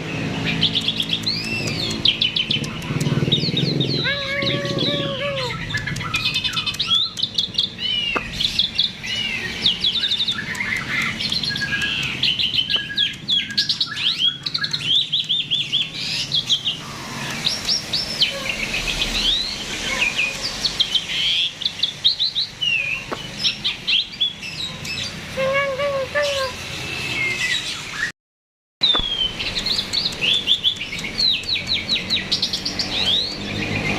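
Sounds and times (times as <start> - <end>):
starling singing: 0.1 - 28.1, 28.8 - 33.9.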